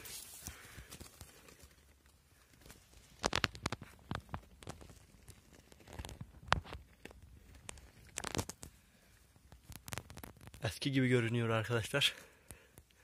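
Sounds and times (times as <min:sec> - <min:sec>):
dry twigs and grass rustling: 0:00.0 - 0:13.0.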